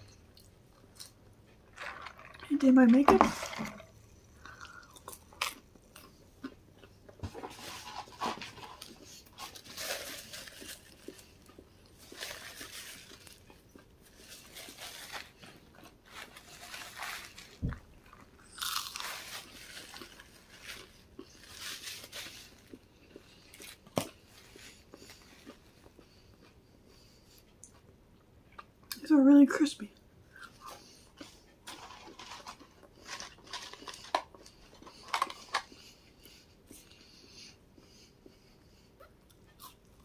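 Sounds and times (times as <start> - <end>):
crunchy chewing: 4.4 - 27.9, 30.3 - 40.0.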